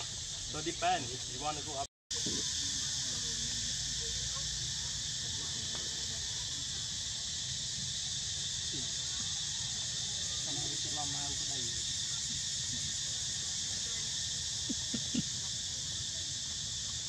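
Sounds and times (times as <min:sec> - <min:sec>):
high-pitched insect chorus buzzing: 0:00.0 - 0:17.0.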